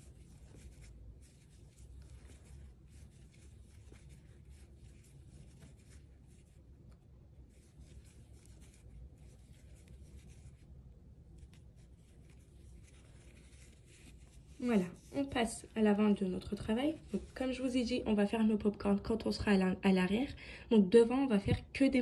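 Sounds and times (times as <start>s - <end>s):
crochet hook scratching yarn: 0.0s - 18.0s.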